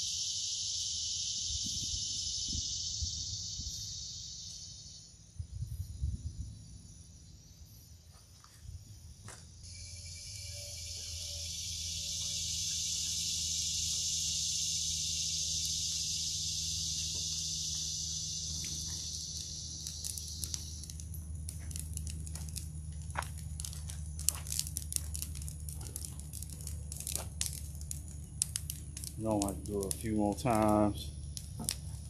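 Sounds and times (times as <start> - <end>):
burning brush crackling: 0.0 - 32.0.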